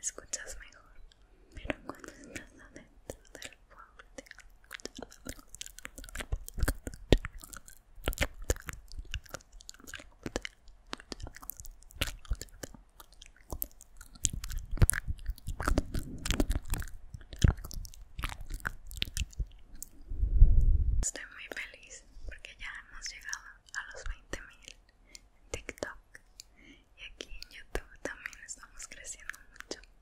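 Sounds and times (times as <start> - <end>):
wet mouth clicks and smacks: 1.1 - 20.0, 22.7 - 30.0.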